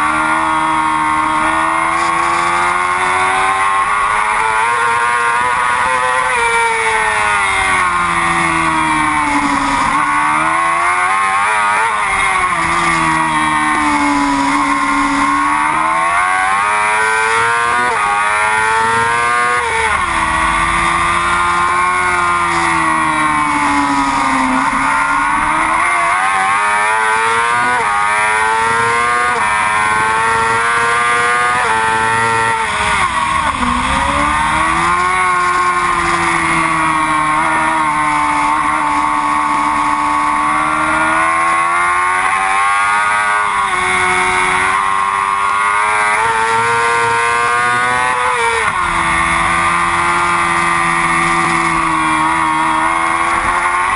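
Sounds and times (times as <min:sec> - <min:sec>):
motorcycle engine at high revs: 0:00.0 - 0:53.9.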